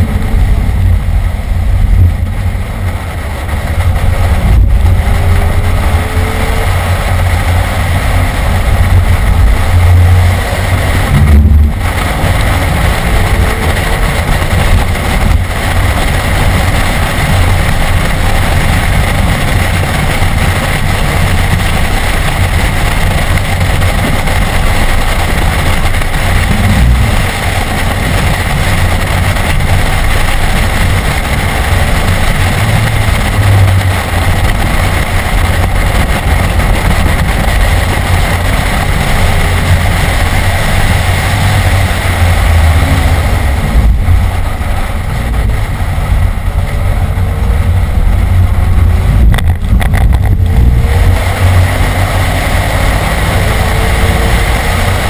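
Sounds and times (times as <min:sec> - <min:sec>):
car engine running hard: 0:00.0 - 0:55.0
wind and road noise: 0:00.0 - 0:55.0.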